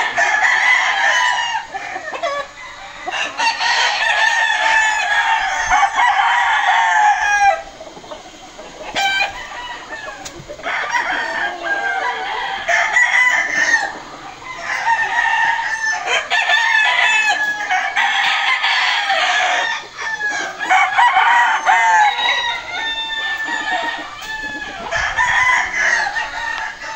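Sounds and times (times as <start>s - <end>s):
roosters crowing: 0.0s - 26.9s.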